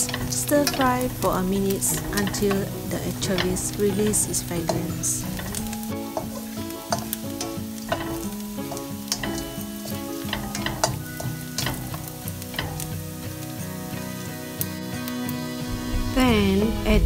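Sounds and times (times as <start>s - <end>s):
spatula scraping wok: 0.0s - 14.6s
food sizzling in hot oil: 0.0s - 16.4s.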